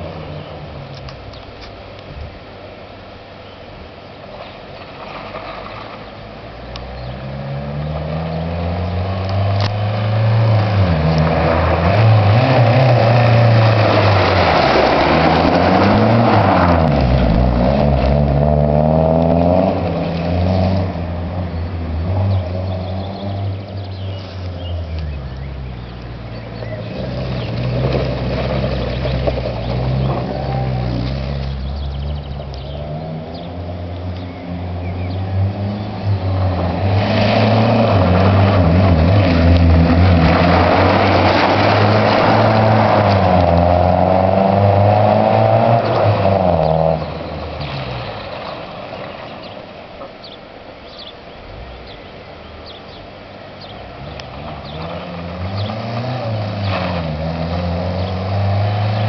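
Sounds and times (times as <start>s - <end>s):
car engine revving: 6.6s - 49.6s, 53.6s - 59.0s.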